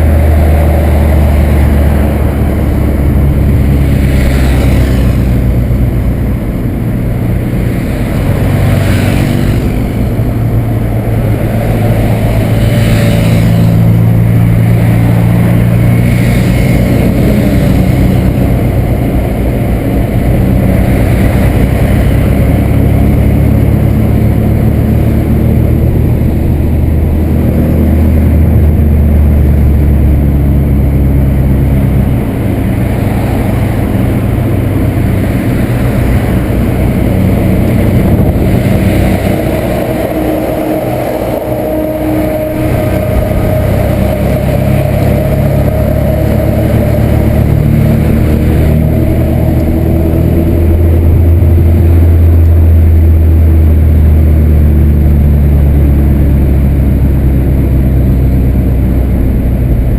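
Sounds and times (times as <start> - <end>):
car engine driving: 0.0 - 59.9.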